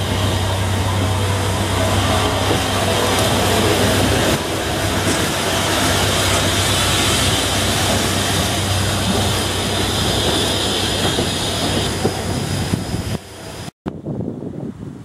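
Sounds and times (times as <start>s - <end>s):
steam hissing from locomotive: 0.0s - 13.7s.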